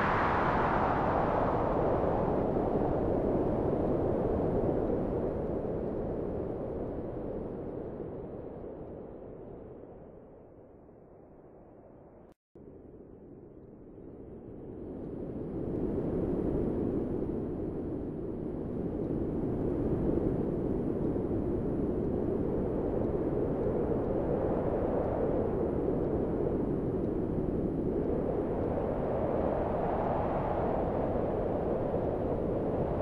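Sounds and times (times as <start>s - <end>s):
low rushing wind: 0.0s - 33.0s.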